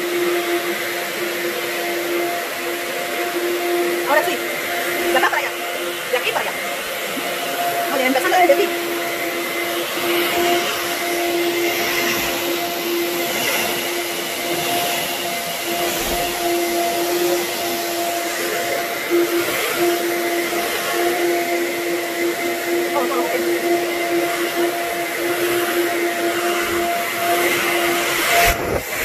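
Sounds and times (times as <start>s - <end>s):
upright vacuum cleaner running: 0.0s - 29.0s.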